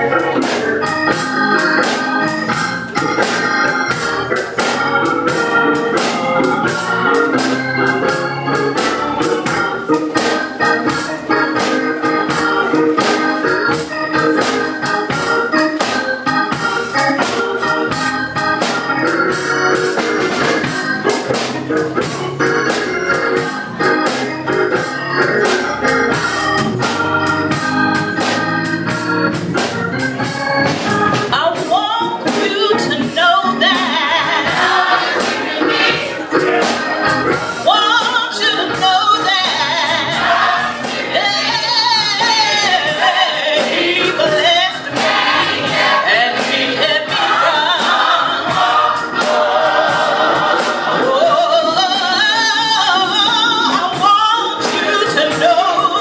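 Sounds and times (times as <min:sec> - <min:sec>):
organ playing gospel music: 0:00.0 - 0:56.0.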